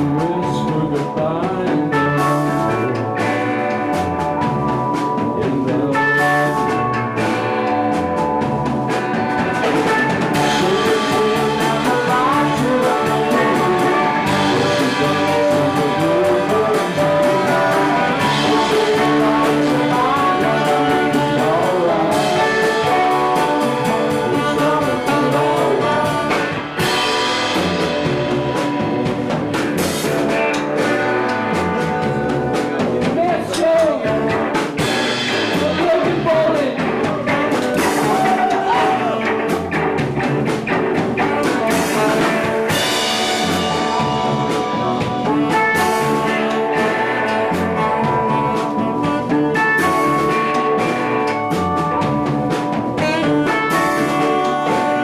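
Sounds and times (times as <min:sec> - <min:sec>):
drums beating: 0:00.0 - 0:55.0
live band playing: 0:00.0 - 0:55.0.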